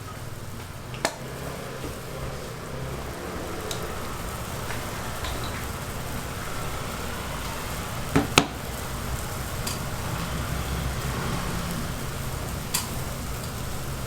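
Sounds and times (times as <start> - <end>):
dough sizzling in hot oil: 0.0 - 14.0
low burner rumble: 0.0 - 14.0.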